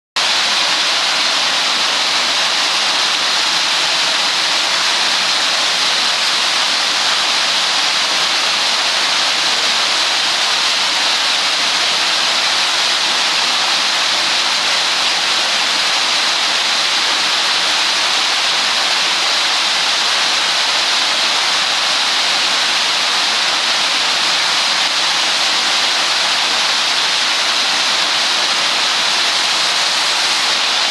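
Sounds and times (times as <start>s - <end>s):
underground waterfall rushing: 0.2s - 30.9s.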